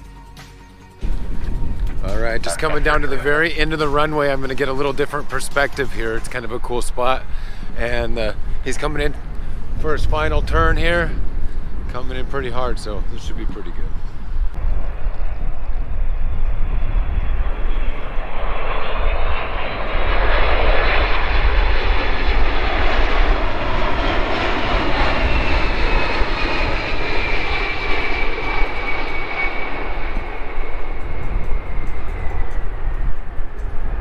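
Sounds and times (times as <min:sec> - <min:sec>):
high engine whine falling in pitch: 0:01.0 - 0:34.0
jet engines passing close: 0:01.0 - 0:34.0
wind rumble on microphone: 0:01.0 - 0:34.0.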